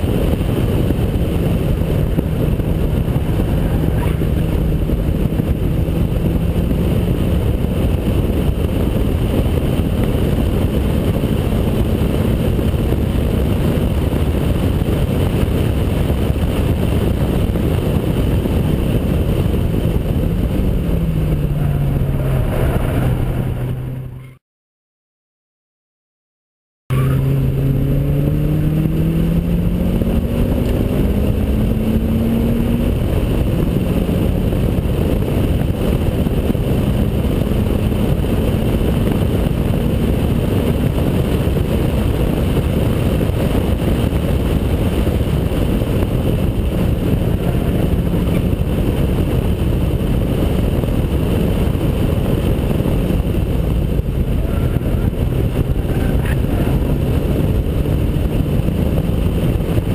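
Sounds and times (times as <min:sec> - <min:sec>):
car engine revving: 0:00.0 - 0:24.4, 0:26.9 - 0:59.9
wind and road rush: 0:00.0 - 0:24.4, 0:26.9 - 0:59.9.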